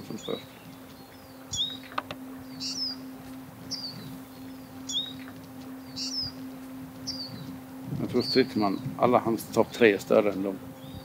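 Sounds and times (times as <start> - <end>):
small bird calling: 0.0 - 9.0, 9.6 - 11.0
steady low hum: 0.0 - 11.0.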